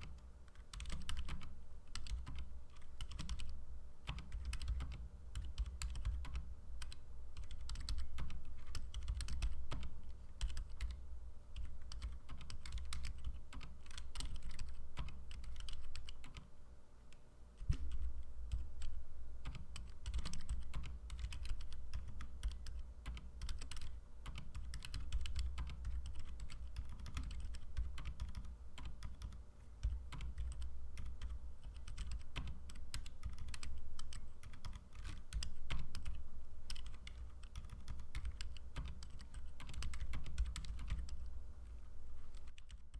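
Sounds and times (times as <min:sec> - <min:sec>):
mechanical keyboard typing: 0:00.0 - 0:11.0, 0:11.6 - 0:16.5, 0:17.6 - 0:41.3.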